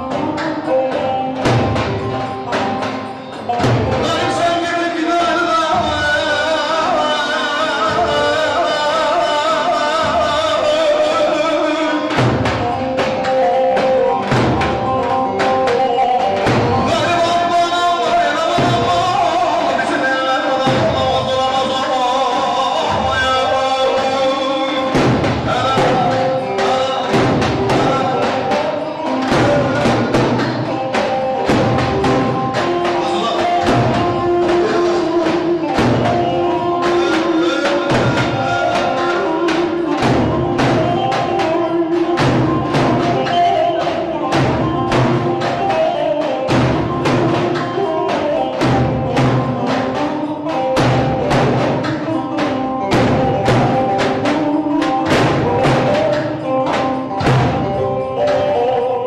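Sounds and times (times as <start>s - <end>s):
driving drum beat: 0.0s - 58.8s
sustained melody: 0.0s - 59.0s.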